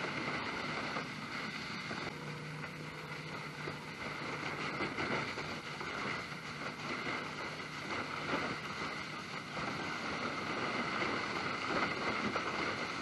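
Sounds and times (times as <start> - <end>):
low steady hum: 0.0 - 12.9
wind noise on microphone: 0.0 - 13.0.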